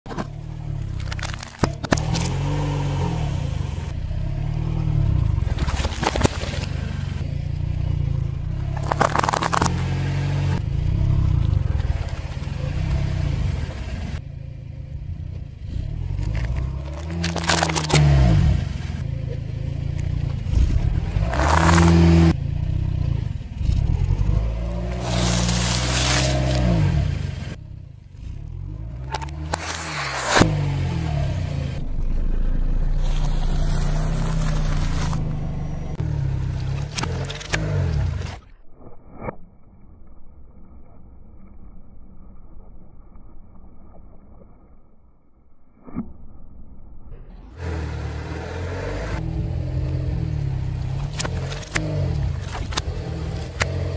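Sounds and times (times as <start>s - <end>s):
car engine running: 0.1s - 38.6s, 47.4s - 53.9s.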